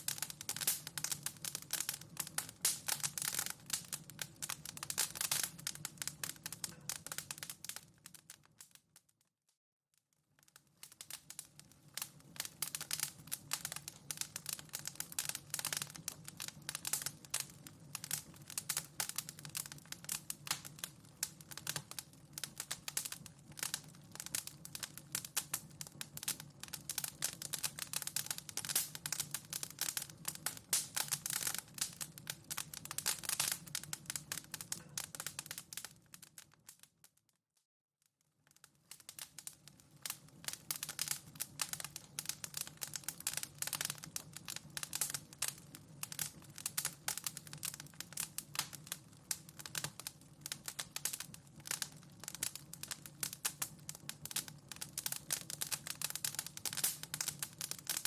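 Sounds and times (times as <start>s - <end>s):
wood fire crackling and popping: 0.0s - 9.2s, 10.3s - 37.3s, 38.4s - 58.0s.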